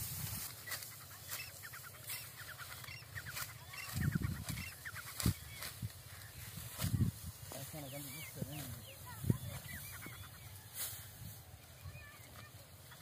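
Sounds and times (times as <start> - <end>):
sickle cutting dry wheat: 0.0 - 10.0, 10.6 - 11.4
birds chirping: 0.2 - 13.0.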